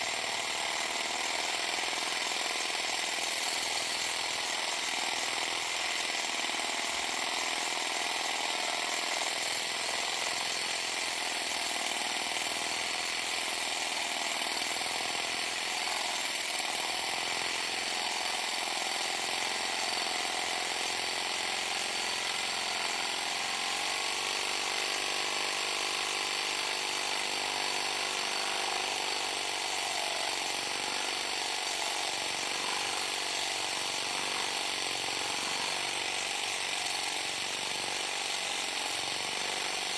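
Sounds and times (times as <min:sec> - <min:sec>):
power tool cutting grout: 0:00.0 - 0:39.9.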